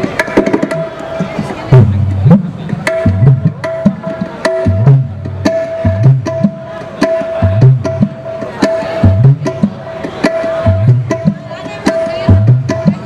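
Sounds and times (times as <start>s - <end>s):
hand drum bass strokes: 0.0s - 13.0s.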